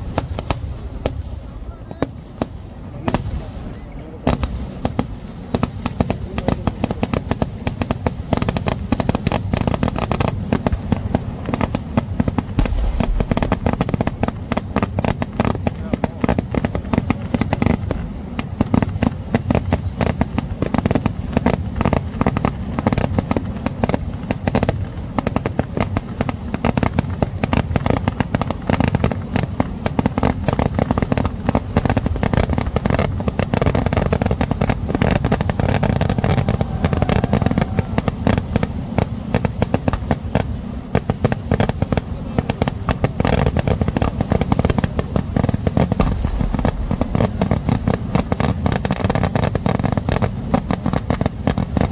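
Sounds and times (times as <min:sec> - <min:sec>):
fireworks barrage of bangs: 0:00.0 - 0:51.9.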